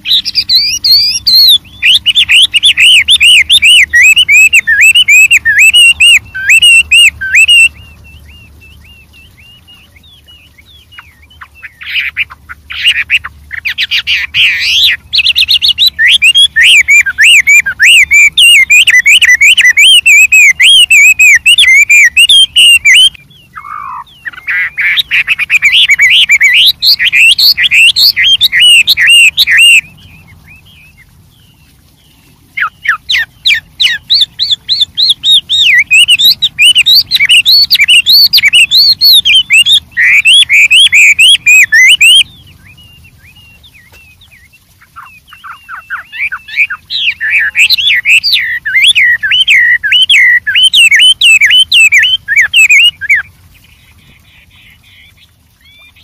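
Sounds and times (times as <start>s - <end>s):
bird singing fast song: 0.0s - 56.0s.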